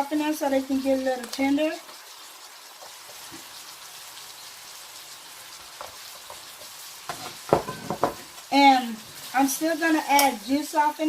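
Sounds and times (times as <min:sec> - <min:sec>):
beef sizzling in a pot: 0:00.0 - 0:11.0.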